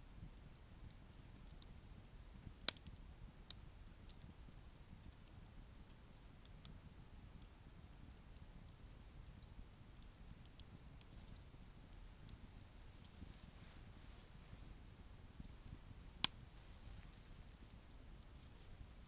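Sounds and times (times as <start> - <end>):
low steady rumble: 0.0 - 19.0
campfire crackling: 0.1 - 19.0.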